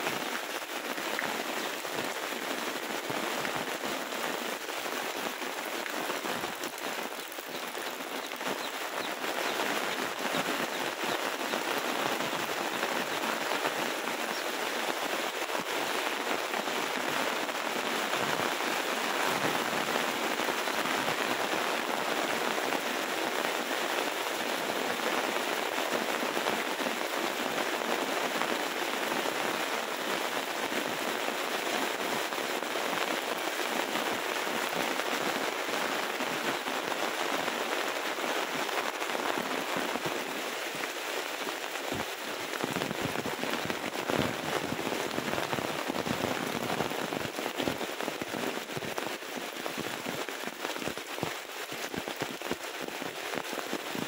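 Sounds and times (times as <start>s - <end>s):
heavy rain falling: 0.0s - 54.0s
raindrops ticking close by: 0.0s - 54.0s.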